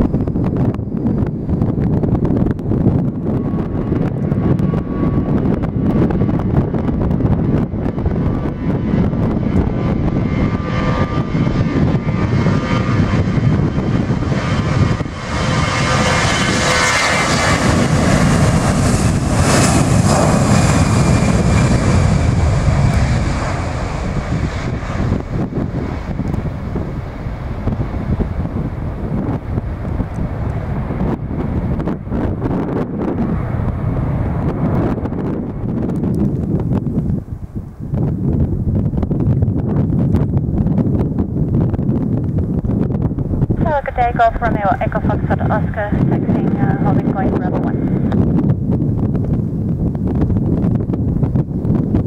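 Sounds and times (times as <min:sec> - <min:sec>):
airliner engines passing: 0:00.0 - 0:52.0
wind buffeting microphone: 0:00.0 - 0:52.0.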